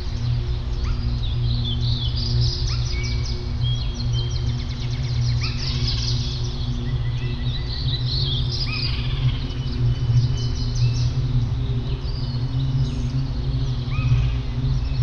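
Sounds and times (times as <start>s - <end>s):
steady low hum: 0.0s - 15.0s
birds chirping and calling: 0.1s - 15.0s.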